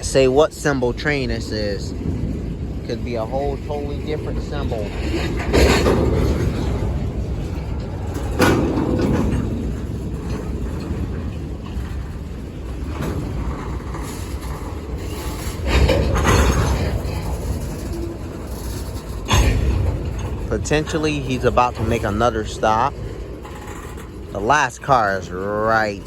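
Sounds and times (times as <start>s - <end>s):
freight train cars rumbling: 0.0s - 26.0s.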